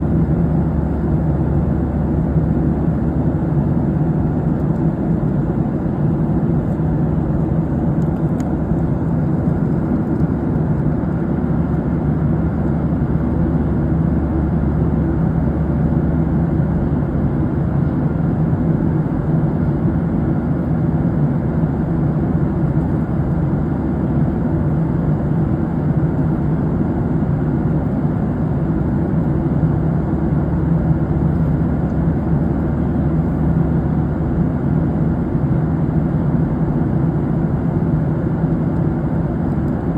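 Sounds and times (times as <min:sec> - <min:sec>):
aircraft cabin drone: 0:00.0 - 0:39.9.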